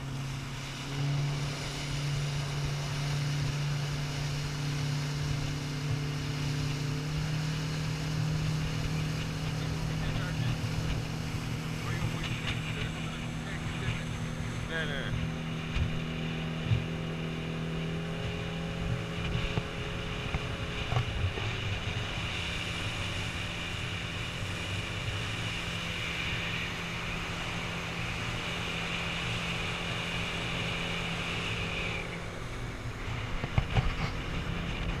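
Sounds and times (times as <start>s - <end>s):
boat engine hum and whine: 0.0s - 35.0s.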